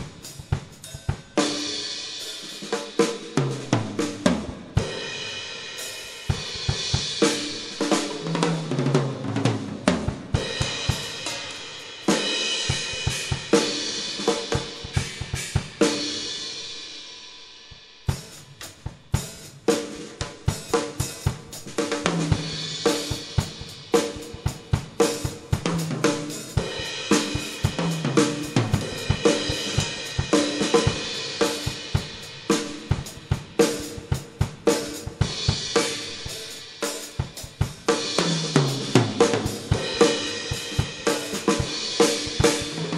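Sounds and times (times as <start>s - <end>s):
drum kit beat: 0.0s - 42.9s.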